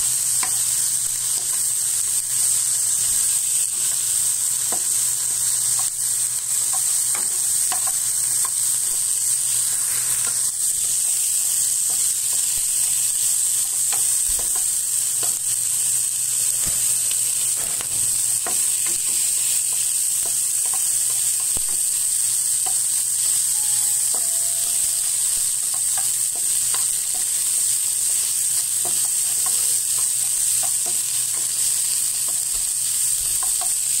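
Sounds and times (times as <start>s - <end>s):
meat and onion sizzling in a pan: 0.0s - 34.0s
utensil clicking against pan: 0.2s - 9.0s, 11.5s - 34.0s.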